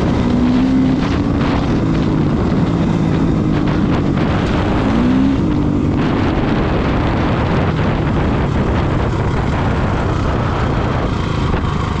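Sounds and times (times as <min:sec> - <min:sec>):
dirt bike engine running: 0:00.0 - 0:12.0
wind noise on microphone: 0:00.0 - 0:12.0.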